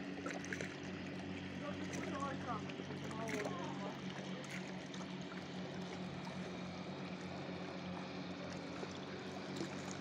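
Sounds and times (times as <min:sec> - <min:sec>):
small waves lapping: 0:00.0 - 0:10.0.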